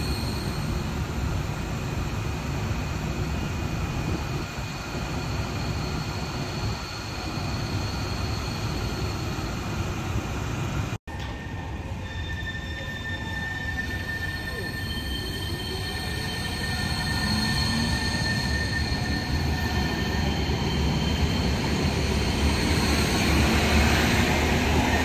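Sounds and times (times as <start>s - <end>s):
tram low rumble: 0.0s - 25.0s.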